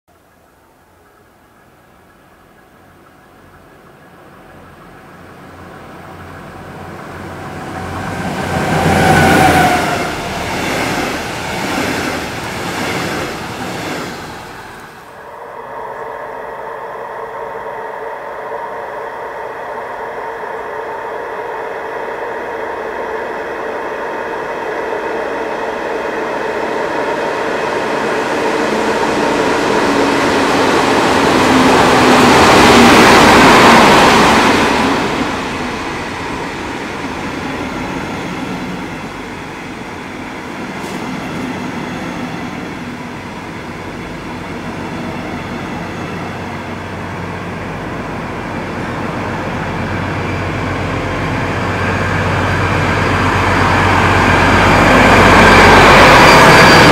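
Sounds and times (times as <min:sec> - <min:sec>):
diesel locomotive engine drone: 0:00.2 - 0:56.9
train wheels rolling on rails: 0:01.0 - 0:15.2, 0:17.6 - 0:56.9.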